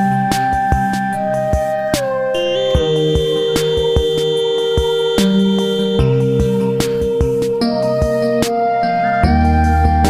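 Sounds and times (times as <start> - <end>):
flute-like melody over beat: 0.0 - 10.0.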